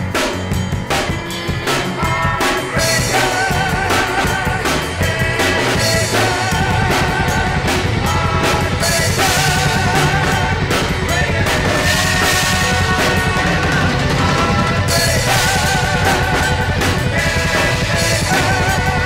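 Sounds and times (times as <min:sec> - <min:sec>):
drum kit playing: 0:00.0 - 0:19.0
rock song with singer: 0:00.0 - 0:19.0.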